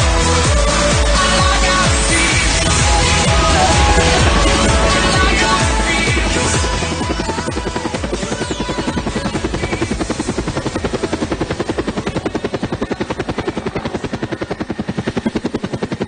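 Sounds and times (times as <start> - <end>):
helicopter rotor beating: 0.0 - 16.0.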